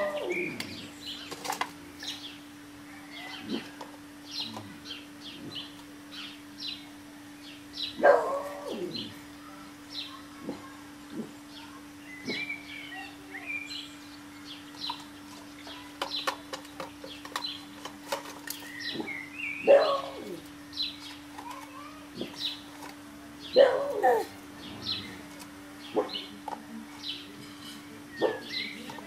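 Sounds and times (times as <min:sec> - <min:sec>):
faint steady hum: 0:00.0 - 0:29.0
small birds chirping: 0:00.0 - 0:29.0.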